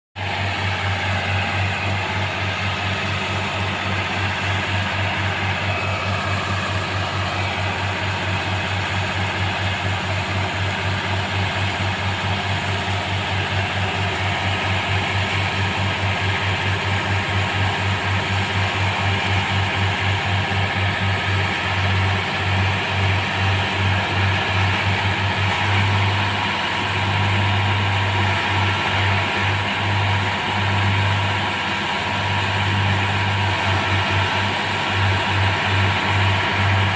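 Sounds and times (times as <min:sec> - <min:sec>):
machine engine pulsing hum: 0:00.1 - 0:36.9.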